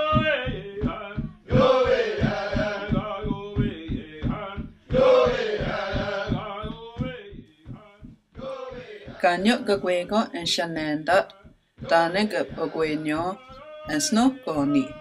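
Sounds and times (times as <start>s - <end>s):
male voices chanting: 0.0s - 10.4s, 11.1s - 15.0s
steady drum beat: 0.0s - 15.0s.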